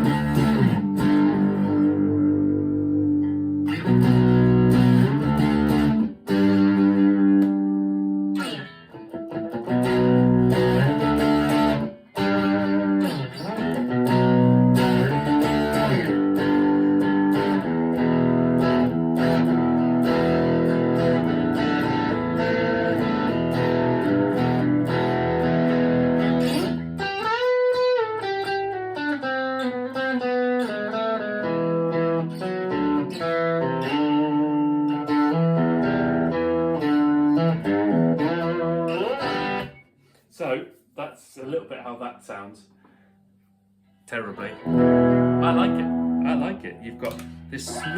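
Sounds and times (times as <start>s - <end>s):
electric guitar through amp: 0.0s - 39.8s, 44.3s - 47.9s.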